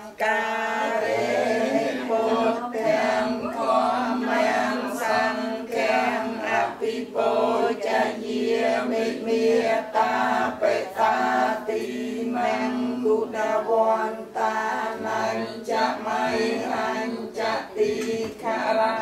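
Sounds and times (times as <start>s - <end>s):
congregation chanting in unison: 0.0s - 19.0s.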